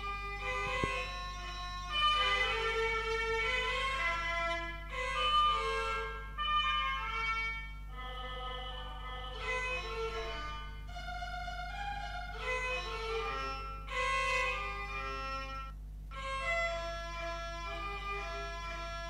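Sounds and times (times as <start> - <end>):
instrumental background music: 0.0 - 19.0
steady low hum: 0.0 - 19.0.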